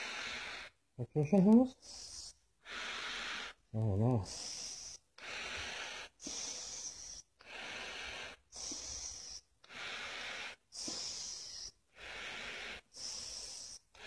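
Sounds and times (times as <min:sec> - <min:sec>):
heavy breathing through a face mask: 0:00.0 - 0:00.8, 0:01.8 - 0:14.0.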